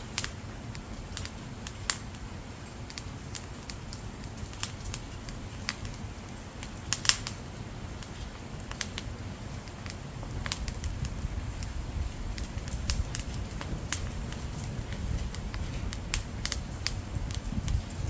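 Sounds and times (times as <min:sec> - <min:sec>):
firewood crackling and popping: 0:00.0 - 0:18.0
low rumble of flame: 0:00.0 - 0:18.0.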